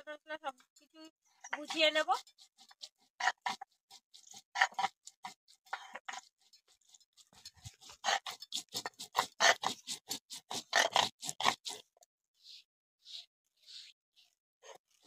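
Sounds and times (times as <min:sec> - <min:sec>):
stone-on-stone grinding strokes: 0:00.4 - 0:15.0.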